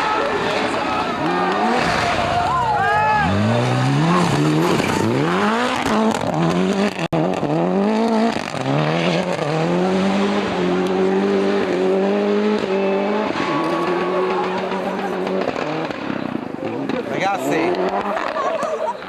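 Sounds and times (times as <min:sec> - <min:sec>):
rally car engine accelerating: 0:00.0 - 0:19.0.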